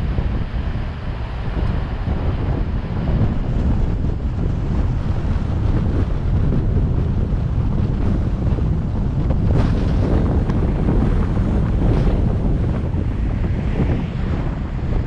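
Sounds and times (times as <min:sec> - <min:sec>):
road noise: 0:00.0 - 0:15.0
wind buffeting the microphone: 0:00.0 - 0:15.0.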